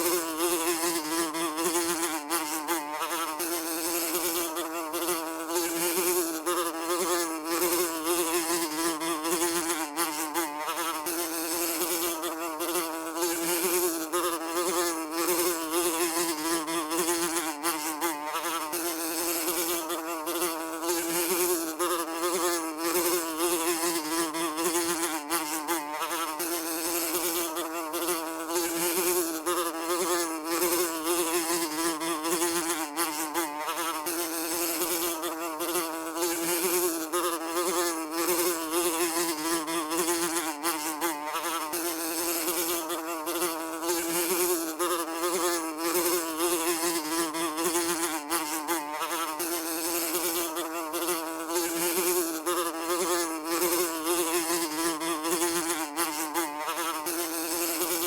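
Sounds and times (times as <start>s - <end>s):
housefly buzzing: 0.0s - 58.0s.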